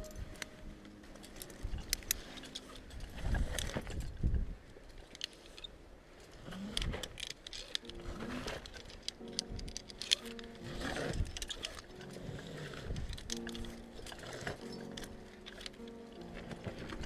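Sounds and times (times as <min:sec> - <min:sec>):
metal climbing gear clinking: 0:00.0 - 0:17.0.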